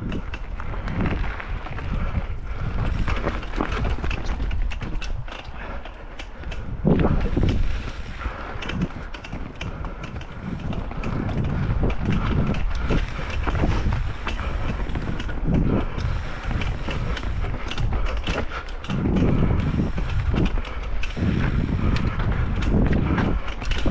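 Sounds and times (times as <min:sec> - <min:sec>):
bike chain clicks and rattles: 0:00.0 - 0:23.9
bike tyres rolling over rough ground: 0:00.0 - 0:23.9
wind rumble on microphone: 0:00.0 - 0:23.9.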